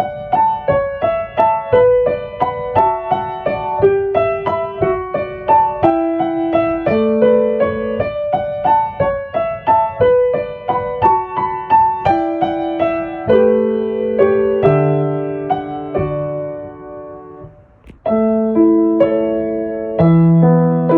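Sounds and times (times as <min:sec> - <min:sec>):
solo piano melody: 0:00.0 - 0:20.9.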